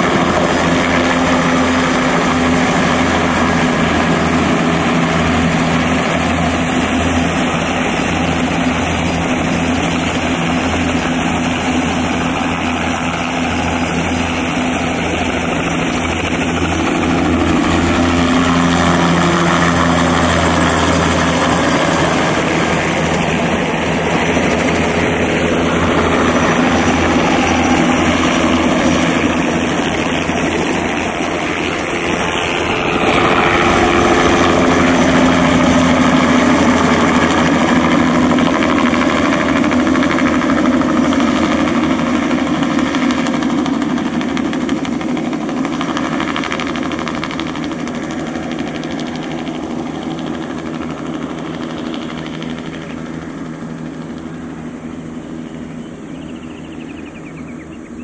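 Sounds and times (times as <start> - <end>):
helicopter engine and rotors droning: 0.0 - 58.0.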